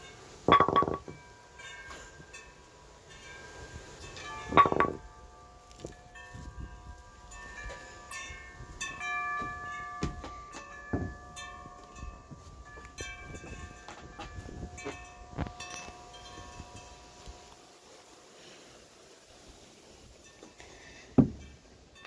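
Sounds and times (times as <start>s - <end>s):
wind chimes ringing: 0.0s - 18.6s, 20.1s - 22.0s.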